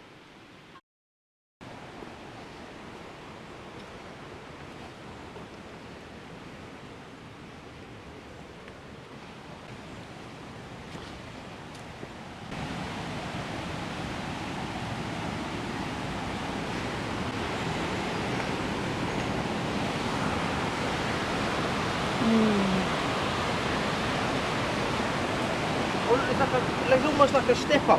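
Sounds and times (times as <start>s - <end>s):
fast-flowing river water: 1.7s - 27.9s.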